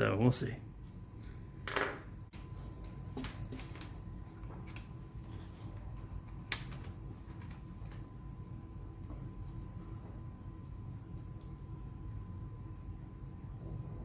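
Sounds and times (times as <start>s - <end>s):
faint steady whine: 0.0s - 14.0s
steady low hum: 0.0s - 14.0s.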